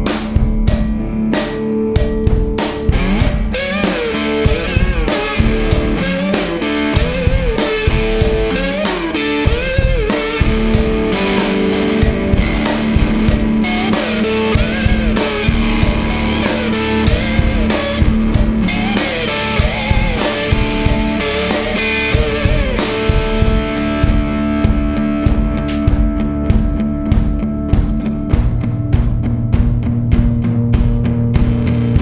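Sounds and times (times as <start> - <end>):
bending electric guitar: 0.0 - 32.0
drum kit steady beat: 0.0 - 32.0.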